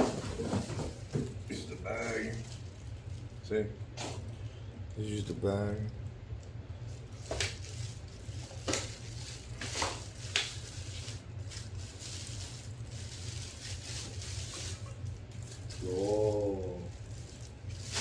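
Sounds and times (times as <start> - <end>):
bag and packaging rustling: 0.0 - 4.3, 6.9 - 18.0
steady low hum: 0.0 - 18.0.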